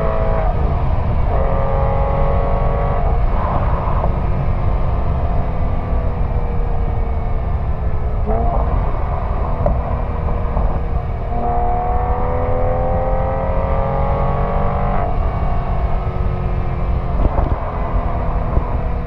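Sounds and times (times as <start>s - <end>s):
car engine through exhaust: 0.0s - 19.0s
wind and road rumble: 0.0s - 19.0s.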